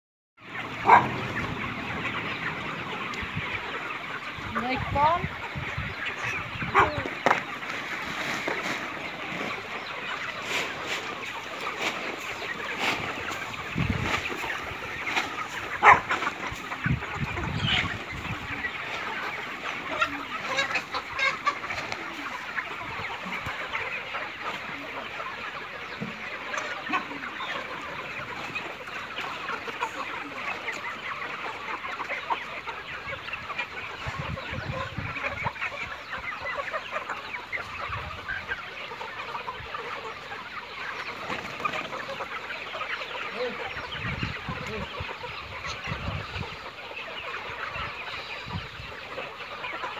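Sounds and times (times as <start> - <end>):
chickens clucking: 0.4 - 49.9.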